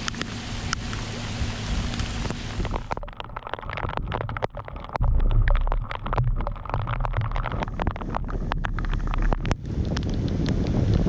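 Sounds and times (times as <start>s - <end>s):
heavy rain tapping on boat deck: 0.0s - 11.0s
wind rumble on microphone: 0.0s - 11.0s.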